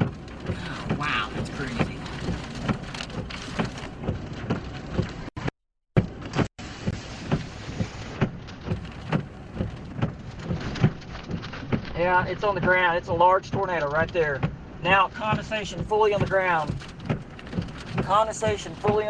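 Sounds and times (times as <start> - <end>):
heavy rain and wind rushing: 0.0 - 5.4, 6.1 - 19.0
raindrops tapping vehicle: 0.0 - 19.0.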